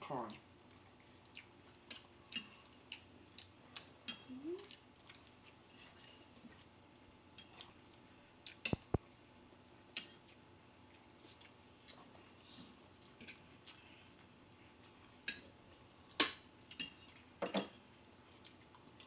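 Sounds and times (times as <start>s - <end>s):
wet chewing and mouth clicks: 0.3s - 9.3s, 9.9s - 15.4s, 18.0s - 19.0s.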